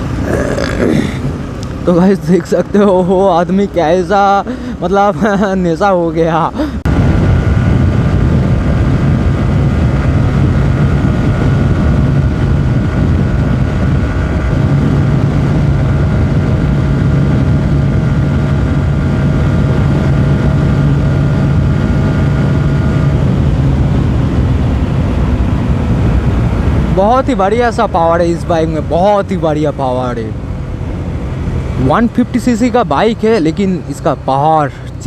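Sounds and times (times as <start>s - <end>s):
motorcycle engine running: 6.6s - 35.0s
wind rush over microphone: 6.6s - 35.0s.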